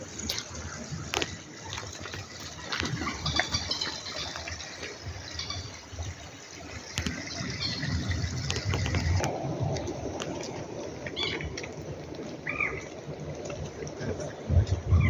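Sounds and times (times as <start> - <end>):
water gushing: 0.0 - 15.0.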